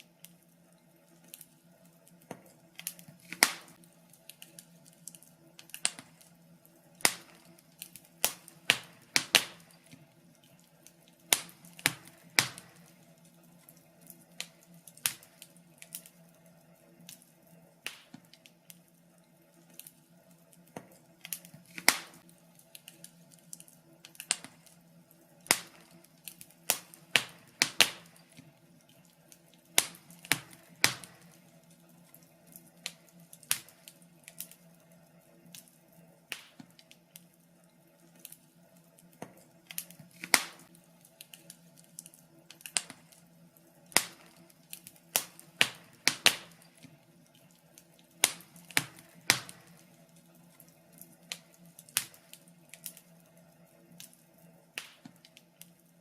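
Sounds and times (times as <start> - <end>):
faint steady hum: 0.0 - 56.0
fireplace fire crackling: 0.0 - 56.0.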